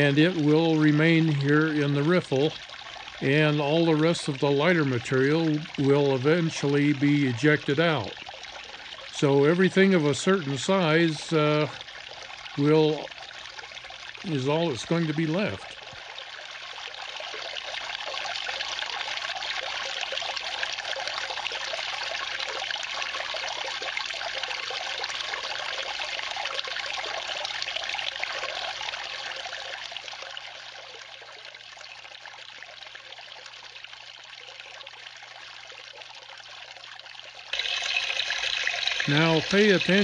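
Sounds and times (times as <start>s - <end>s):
water trickling through sluice: 0.0s - 40.0s.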